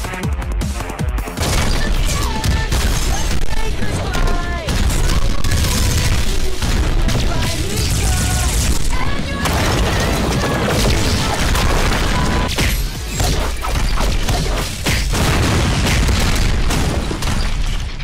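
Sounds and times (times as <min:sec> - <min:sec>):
music: 0:00.0 - 0:18.0
fight booms and impacts: 0:00.7 - 0:18.0.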